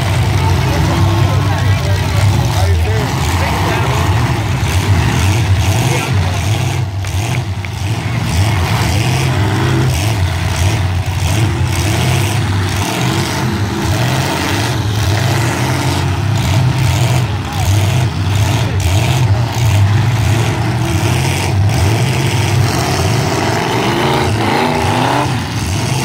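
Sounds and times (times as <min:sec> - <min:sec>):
truck engines revving: 0:00.0 - 0:26.0.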